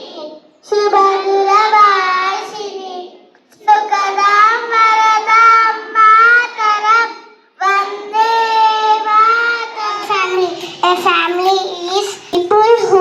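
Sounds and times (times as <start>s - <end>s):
children singing: 0.0s - 13.0s.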